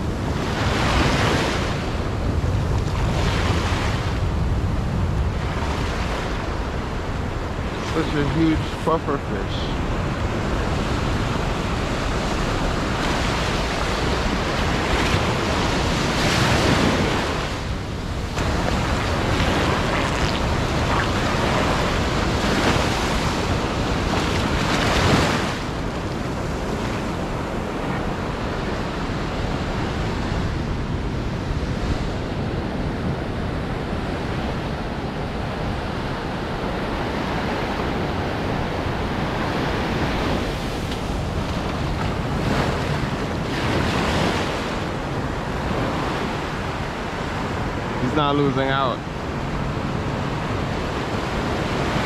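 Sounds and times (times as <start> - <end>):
small waves on sandy beach: 0.0 - 52.0.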